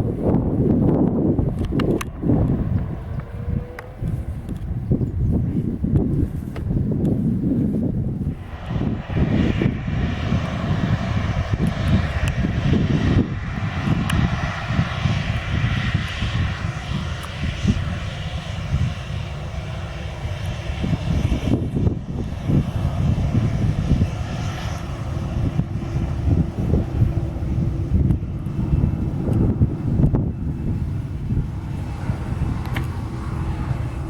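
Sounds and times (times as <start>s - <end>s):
airliner engines rushing: 0.0s - 34.0s
wind buffeting microphone: 0.0s - 34.0s.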